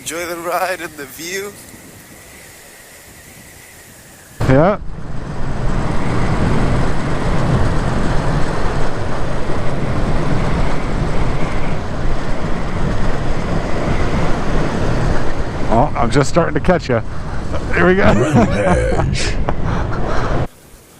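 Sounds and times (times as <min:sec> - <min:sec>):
motorcycle engine and road noise: 0:00.0 - 0:18.1
wind rushing over microphone: 0:00.0 - 0:20.6.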